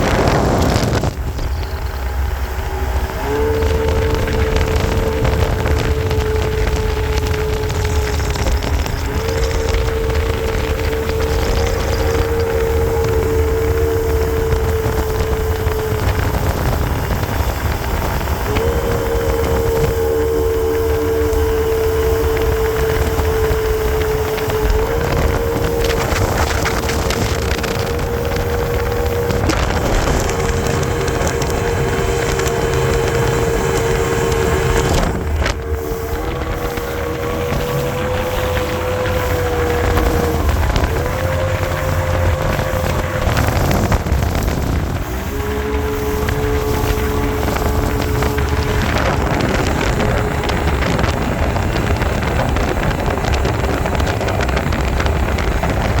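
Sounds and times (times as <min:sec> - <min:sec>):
outboard engine whine: 0:00.0 - 0:56.0
wind noise on microphone: 0:00.0 - 0:56.0.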